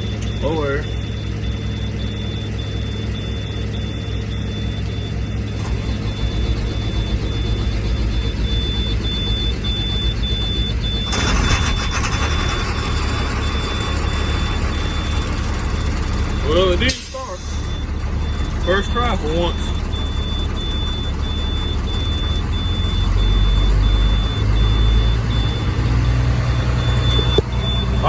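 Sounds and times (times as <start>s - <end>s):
high-pitched warning beep: 0.0s - 12.5s, 13.3s - 28.0s
diesel engines idling: 0.0s - 28.0s.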